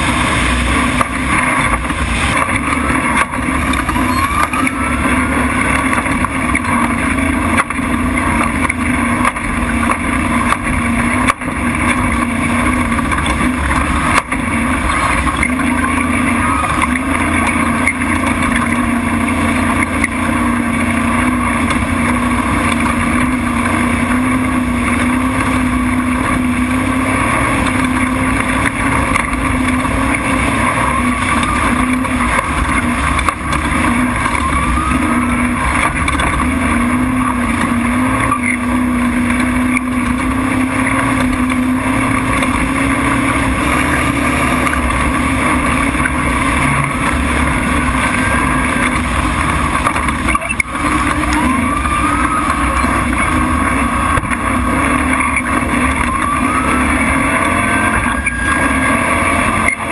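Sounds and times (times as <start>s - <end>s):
truck engine running: 0.0s - 59.9s
wind and road noise: 0.0s - 59.9s.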